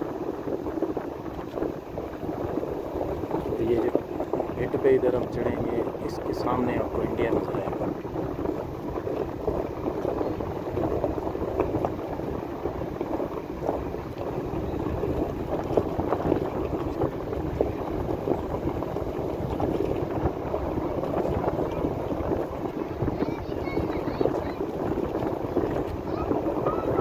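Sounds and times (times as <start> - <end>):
wind on microphone: 0.0 - 27.0
tyres crackling: 0.8 - 27.0
vehicle rumbling on dirt track: 1.4 - 27.0.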